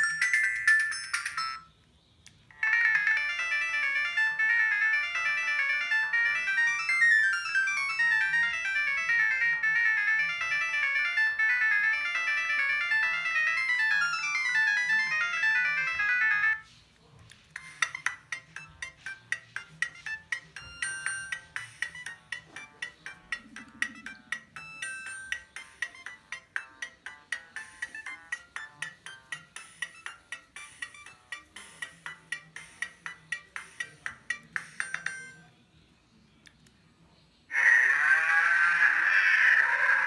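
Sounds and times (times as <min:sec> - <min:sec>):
phone ringtone melodies: 0:00.0 - 0:01.8, 0:02.4 - 0:16.8, 0:17.6 - 0:35.5.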